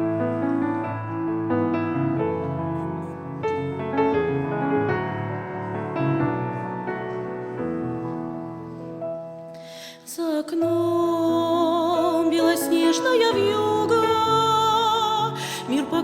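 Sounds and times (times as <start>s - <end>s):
piano playing a hymn: 0.0s - 16.0s.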